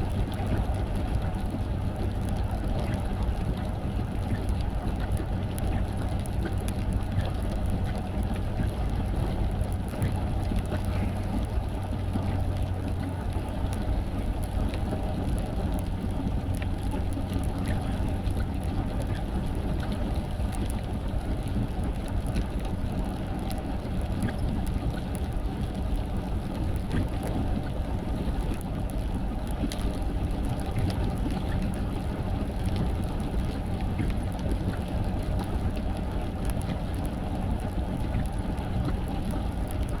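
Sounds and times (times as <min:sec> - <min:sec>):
car engine and road rumble: 0:00.0 - 0:40.0
light ticks of rain: 0:00.0 - 0:40.0.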